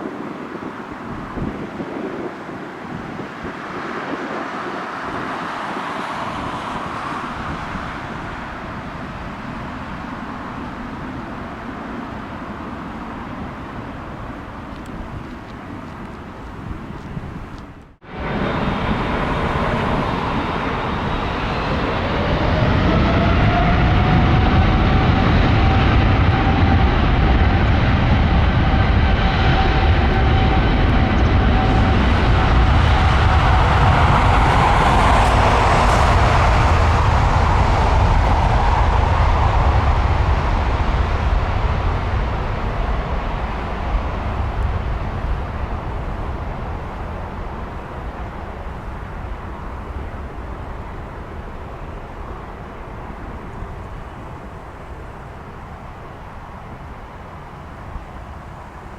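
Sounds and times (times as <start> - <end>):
jet engine roar with fan whine: 0.0 - 58.9.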